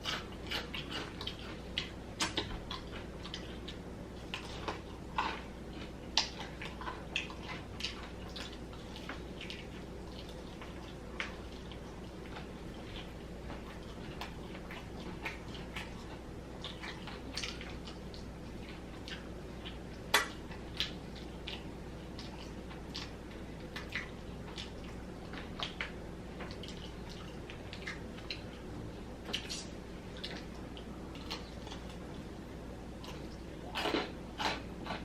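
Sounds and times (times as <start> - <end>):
steady low hum: 0.0 - 35.0
wet chewing clicks: 0.0 - 35.0.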